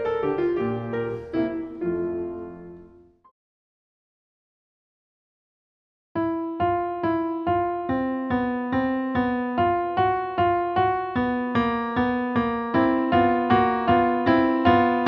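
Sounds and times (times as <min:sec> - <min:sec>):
piano playing simple piece: 0:00.0 - 0:03.2, 0:06.2 - 0:15.0.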